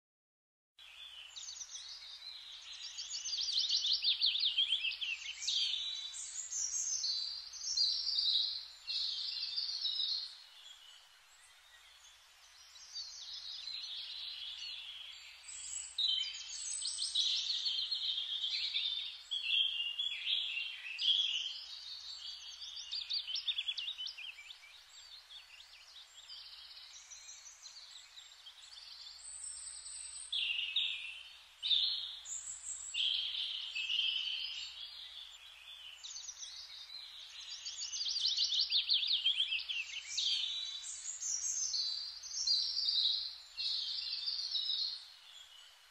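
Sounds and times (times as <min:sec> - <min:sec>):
small birds chirping and trilling: 0:00.8 - 0:45.9.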